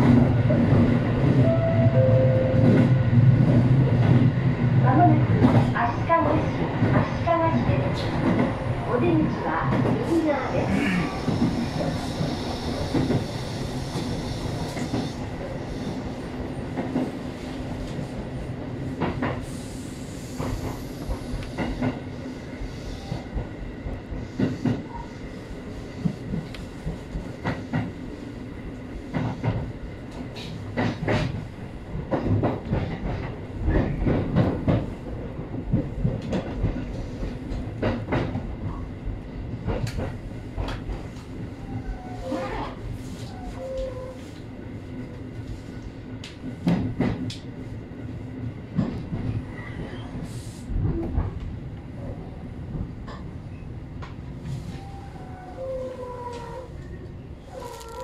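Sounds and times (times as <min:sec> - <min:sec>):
train rumble with low hum: 0:00.0 - 0:58.0.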